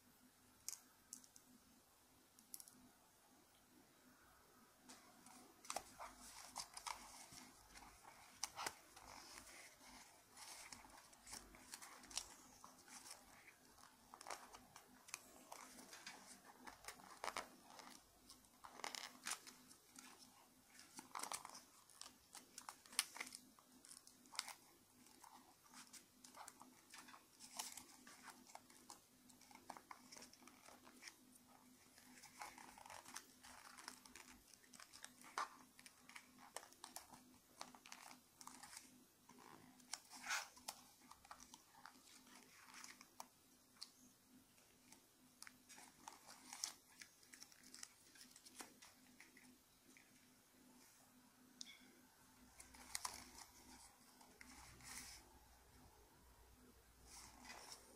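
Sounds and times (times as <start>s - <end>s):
paper crinkling while folded: 5.0s - 51.0s, 52.4s - 55.3s, 57.1s - 57.9s.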